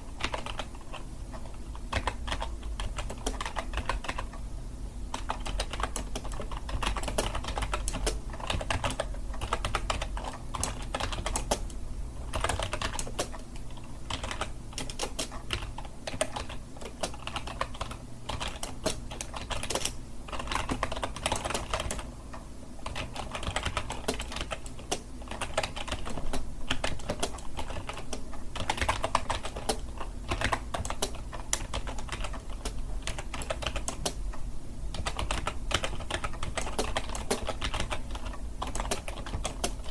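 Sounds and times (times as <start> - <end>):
computer keyboard typing: 0.0 - 4.4, 5.1 - 22.1, 22.8 - 34.3, 34.9 - 39.9.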